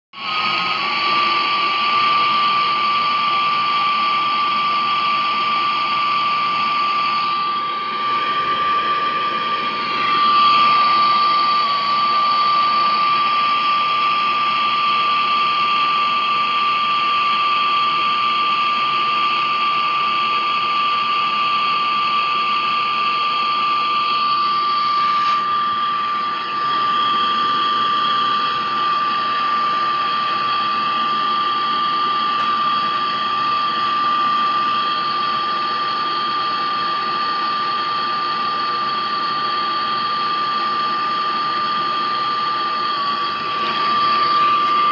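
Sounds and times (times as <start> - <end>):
high constant whistle: 0.2 - 44.9.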